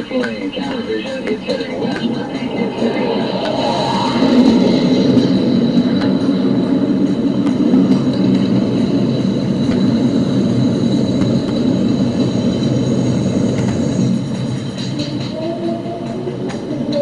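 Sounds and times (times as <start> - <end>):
high engine whine: 0.0 - 17.0
jet engine roar: 0.0 - 17.0.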